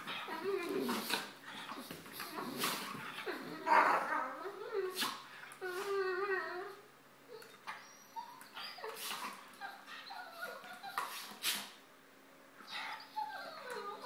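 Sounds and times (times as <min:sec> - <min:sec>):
dogs whining and yipping: 0:00.0 - 0:11.5, 0:12.6 - 0:14.0.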